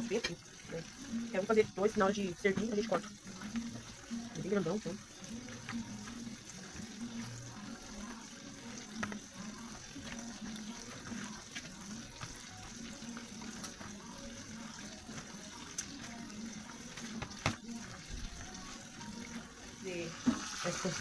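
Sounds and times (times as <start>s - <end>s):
chicken sizzling in oil: 0.0s - 21.0s
oil popping and crackling: 0.0s - 21.0s.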